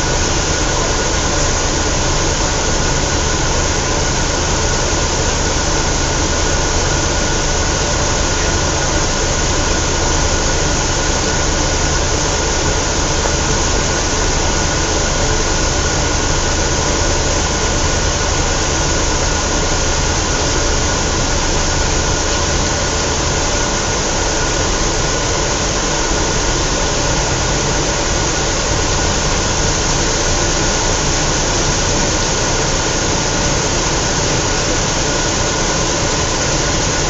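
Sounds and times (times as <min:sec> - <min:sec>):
bus diesel engine running: 0:00.0 - 0:37.0.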